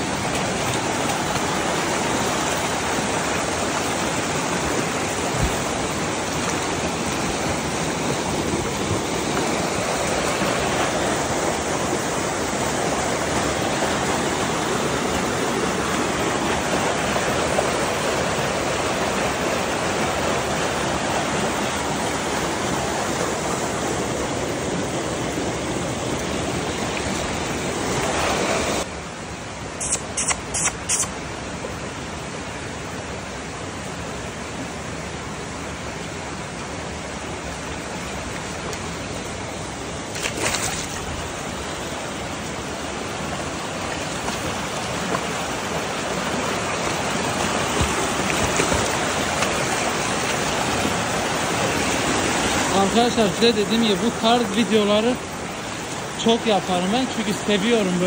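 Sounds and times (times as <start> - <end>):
creek rushing over stones: 0.0 - 58.0.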